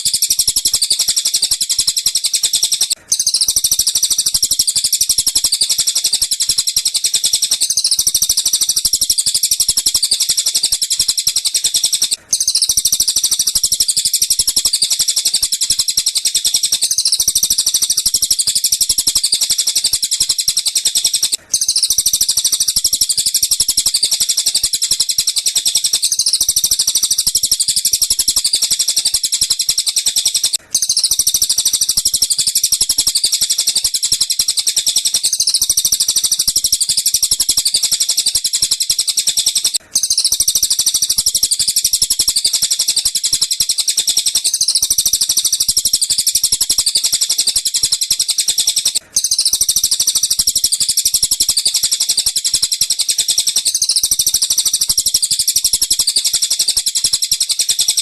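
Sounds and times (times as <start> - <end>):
high-pitched bird chirps: 0.0 - 58.0.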